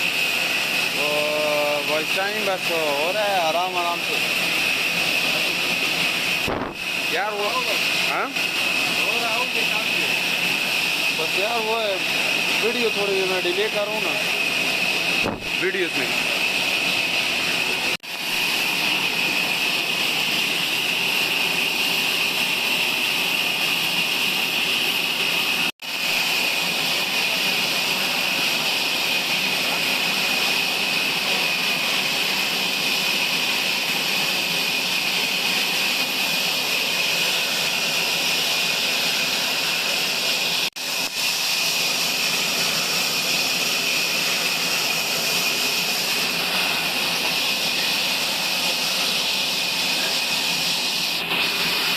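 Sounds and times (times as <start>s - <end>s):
sawmill saw whining: 0.0s - 51.9s.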